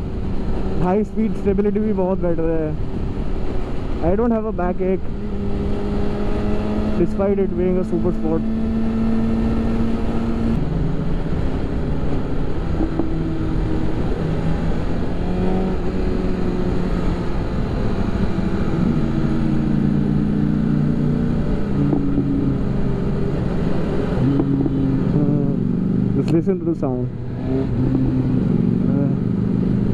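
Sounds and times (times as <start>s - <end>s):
motorcycle engine running: 3.0s - 29.9s.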